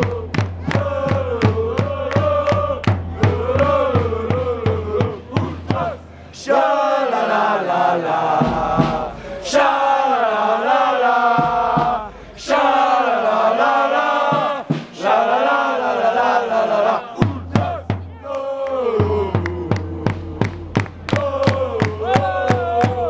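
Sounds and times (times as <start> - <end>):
crowd chanting in unison: 0.0 - 23.0.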